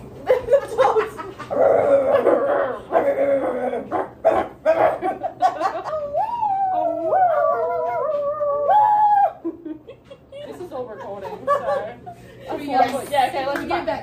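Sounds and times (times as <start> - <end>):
women laughing and chattering: 0.0 - 3.9, 4.6 - 14.0.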